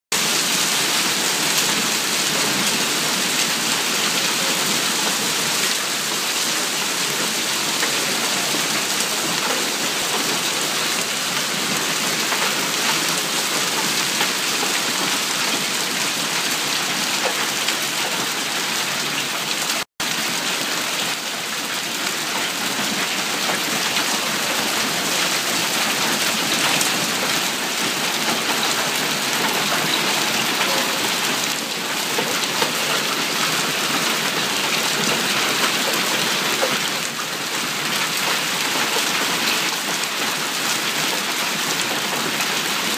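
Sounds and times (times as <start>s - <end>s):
hail clattering: 0.2s - 42.9s.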